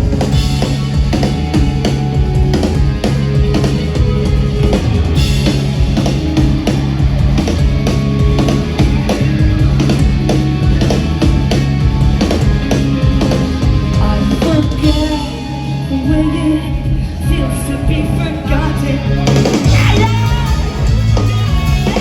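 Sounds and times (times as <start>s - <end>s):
loud rock music: 0.0s - 22.0s.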